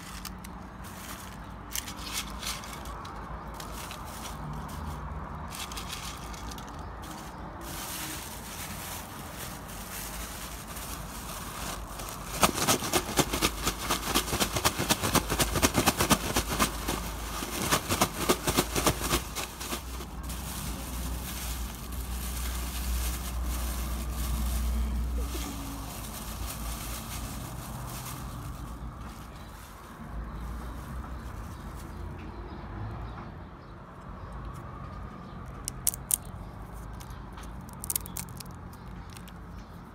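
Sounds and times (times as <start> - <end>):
chips shaken in plastic bag: 0.0 - 31.4, 37.6 - 39.3
plastic bag rustling: 0.0 - 32.1, 37.6 - 39.3.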